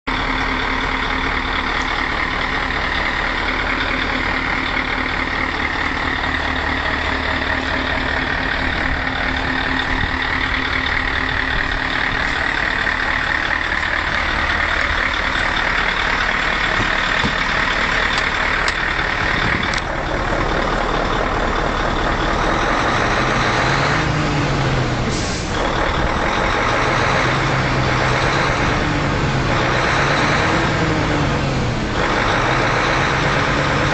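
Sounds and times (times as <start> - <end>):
engine running steadily: 0.1 - 33.9.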